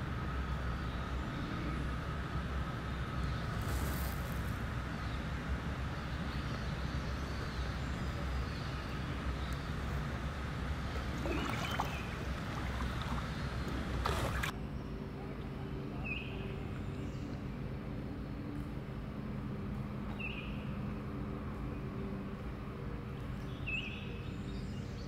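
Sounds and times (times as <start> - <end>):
faint high hum: 0.0 - 25.0
low outdoor rumble: 0.0 - 25.0.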